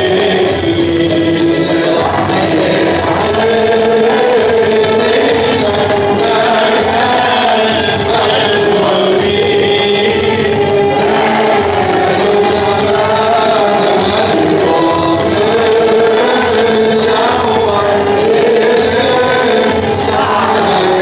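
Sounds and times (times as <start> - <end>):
men singing a hymn: 0.0 - 21.0.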